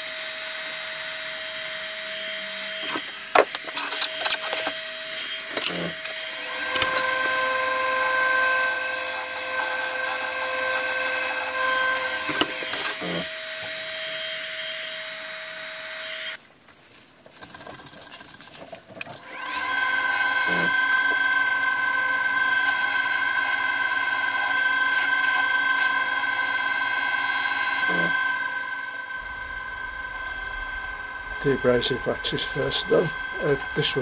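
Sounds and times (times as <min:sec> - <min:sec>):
wood lathe motor humming: 0:00.0 - 0:16.4, 0:19.2 - 0:34.0.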